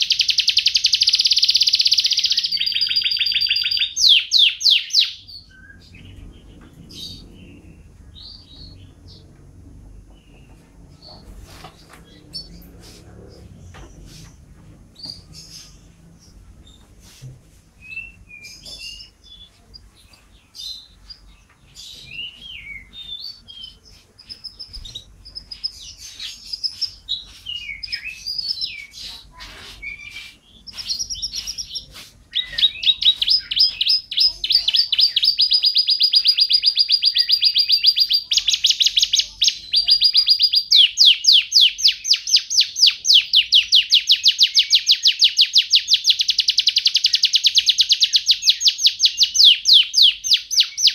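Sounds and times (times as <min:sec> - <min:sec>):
canary singing trills: 0:00.0 - 0:09.3, 0:17.8 - 0:50.9.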